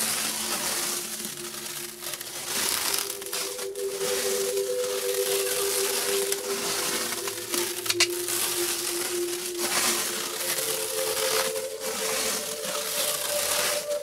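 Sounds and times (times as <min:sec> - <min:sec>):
plastic wrap rustling: 0:00.0 - 0:14.0
plastic wrap snapping: 0:00.0 - 0:14.0.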